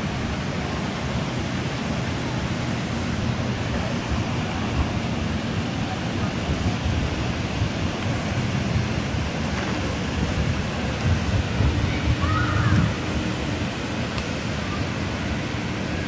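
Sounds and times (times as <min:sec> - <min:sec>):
water rushing over spillway: 0:00.0 - 0:16.0.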